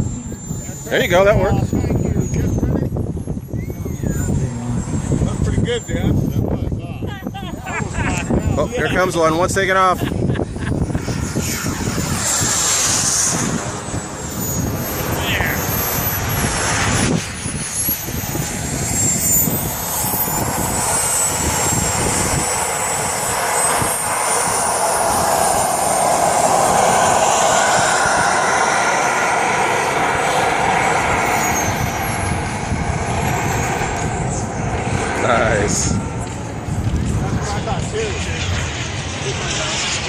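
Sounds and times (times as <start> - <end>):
model jet whine: 0.0 - 40.0
rushing noise: 0.0 - 40.0.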